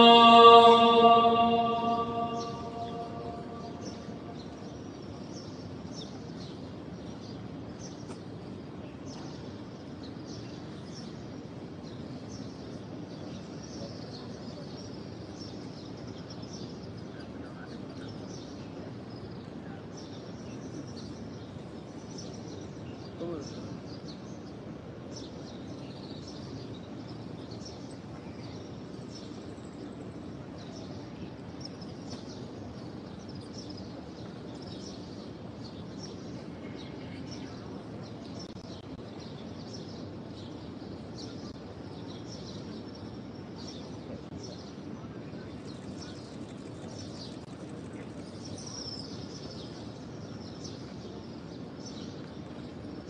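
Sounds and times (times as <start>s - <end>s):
low background noise: 0.0s - 53.0s.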